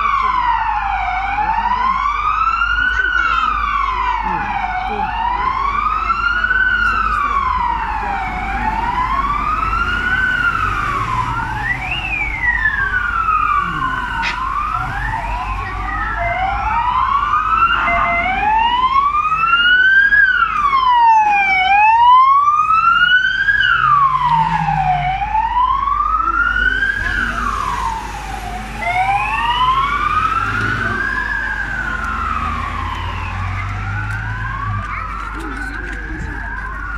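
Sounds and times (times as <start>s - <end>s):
rumble of vehicle engines: 0.0s - 36.9s
sirens wailing: 0.0s - 36.9s.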